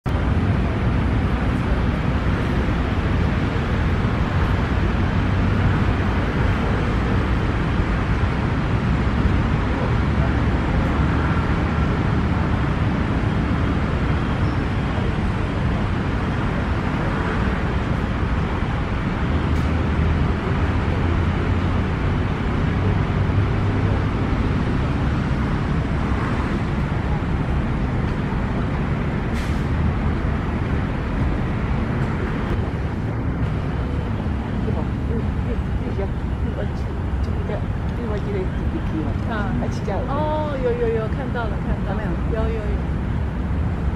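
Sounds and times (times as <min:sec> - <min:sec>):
city road traffic rumble: 0:00.0 - 0:43.9.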